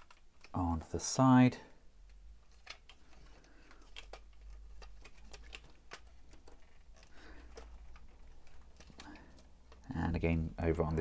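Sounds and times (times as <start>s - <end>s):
plastic parts clicking and tapping: 0.0s - 0.9s, 2.0s - 10.3s.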